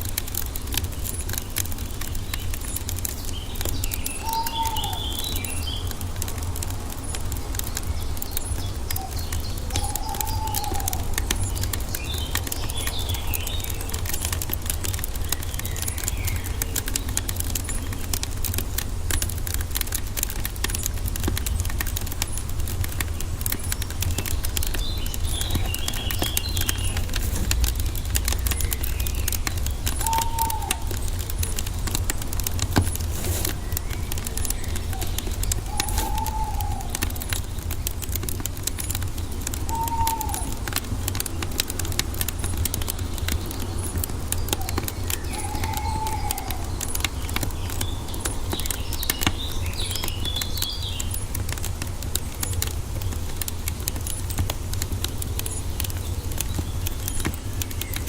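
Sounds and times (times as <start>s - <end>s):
wood fire crackling: 0.0s - 58.0s
birds twittering: 0.2s - 58.0s.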